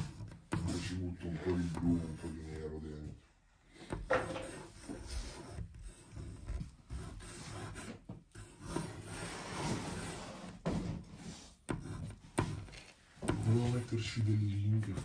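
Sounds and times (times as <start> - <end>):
marker scraping on a wall: 0.0 - 15.0.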